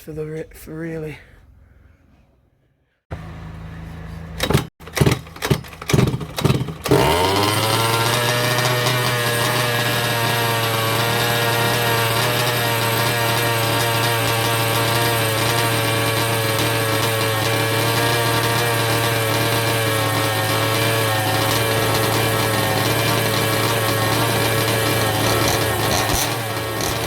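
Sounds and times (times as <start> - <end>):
two-stroke rc car engine revving: 4.8 - 27.0.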